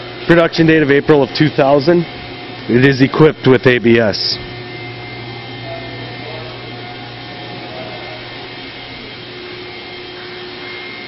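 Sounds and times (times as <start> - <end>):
faint high whine: 0.0 - 11.0
low hum: 0.0 - 11.0
machine whir: 0.0 - 11.0.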